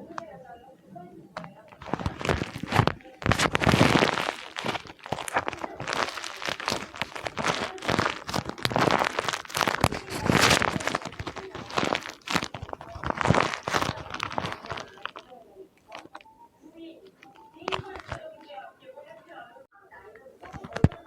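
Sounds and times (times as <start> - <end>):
paper crinkling: 1.4 - 16.3, 17.0 - 19.1, 20.0 - 21.0.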